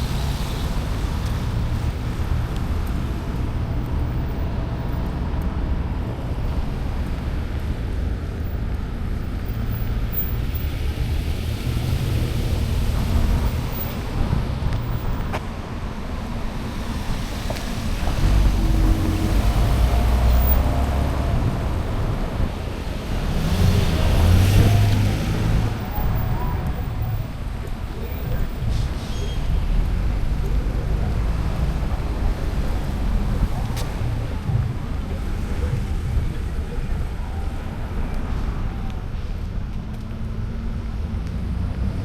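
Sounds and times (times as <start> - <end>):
cars passing on road: 0.0 - 42.0.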